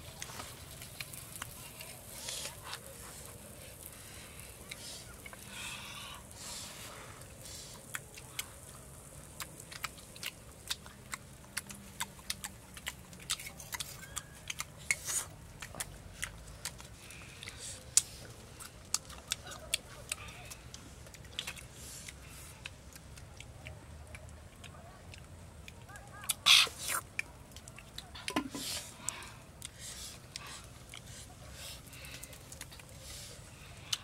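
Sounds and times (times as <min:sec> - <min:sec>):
people chewing and lip-smacking: 0:00.0 - 0:34.0.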